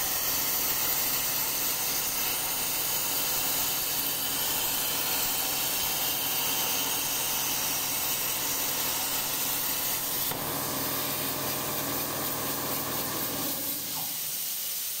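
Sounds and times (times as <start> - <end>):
plasma torch hissing: 0.0 - 15.0.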